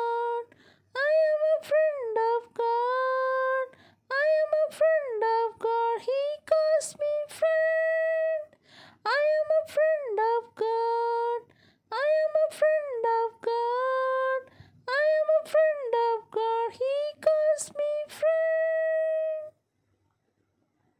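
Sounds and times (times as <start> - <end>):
woman singing alone: 0.0 - 19.6.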